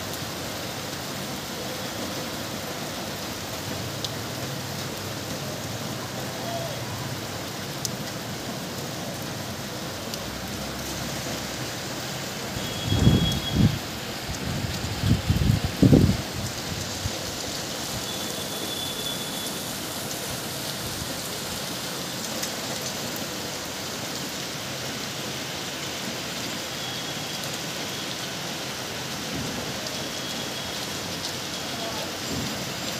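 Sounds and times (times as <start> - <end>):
rain falling: 0.0 - 32.9
sharp rain ticks: 0.0 - 32.9.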